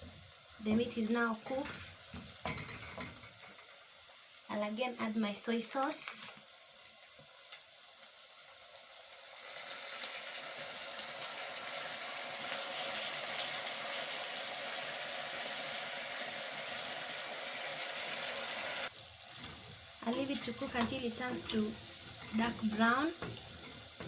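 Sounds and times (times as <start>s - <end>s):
meat sizzling in a pot: 0.0s - 24.0s.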